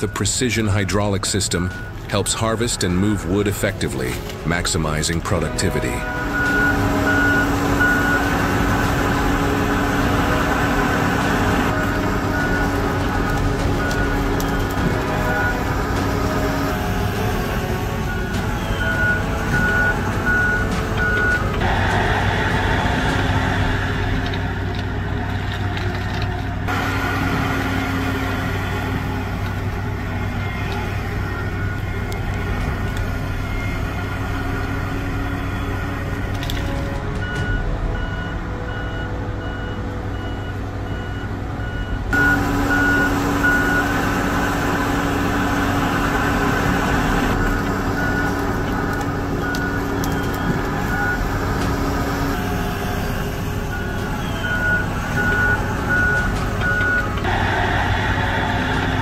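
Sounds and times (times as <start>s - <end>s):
logging machine engine running: 0.0s - 59.0s.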